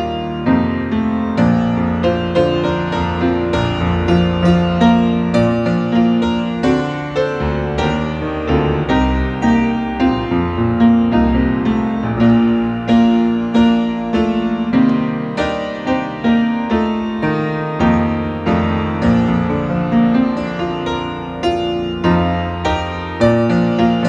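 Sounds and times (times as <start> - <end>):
grand piano chords: 0.0 - 24.0.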